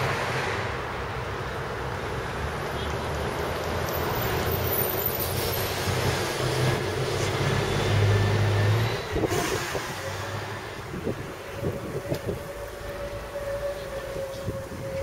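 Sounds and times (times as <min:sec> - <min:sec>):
large vehicle engine hum: 0:00.0 - 0:15.0
street traffic noise: 0:00.0 - 0:15.0.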